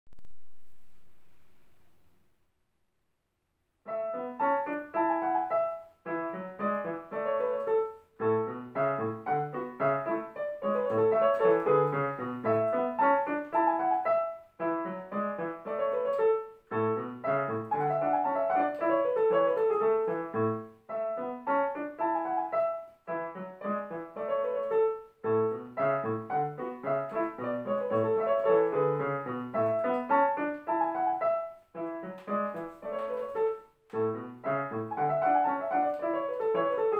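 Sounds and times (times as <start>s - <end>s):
digital piano classical piece: 3.9s - 36.9s.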